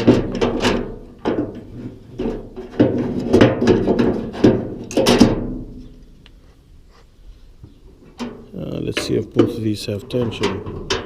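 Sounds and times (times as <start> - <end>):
metal clunks and scraping: 0.0 - 6.2, 7.6 - 11.0.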